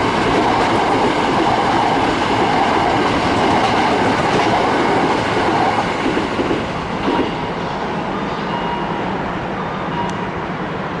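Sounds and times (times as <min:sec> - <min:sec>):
electric train running past: 0:00.0 - 0:11.0.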